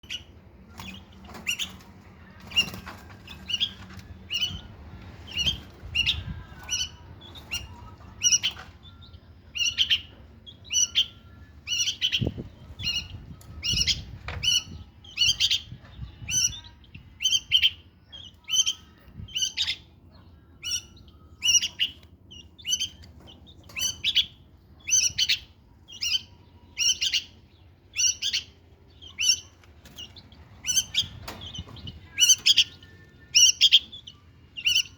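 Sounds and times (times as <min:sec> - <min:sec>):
birds chirping sharply: 0:00.0 - 0:34.9.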